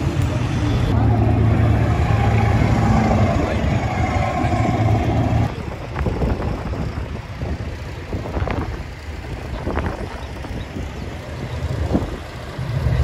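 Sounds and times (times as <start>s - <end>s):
engine rumble: 0.0s - 13.0s
pickup engine drone: 0.0s - 13.0s.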